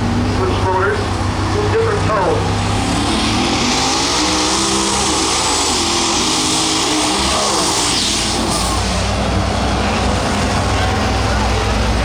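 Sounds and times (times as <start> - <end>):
vehicle engine running hard: 0.0 - 12.0.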